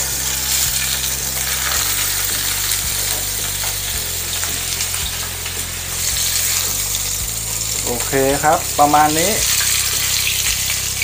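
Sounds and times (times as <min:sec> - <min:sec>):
fish sizzling in frying pan: 0:00.0 - 0:11.0.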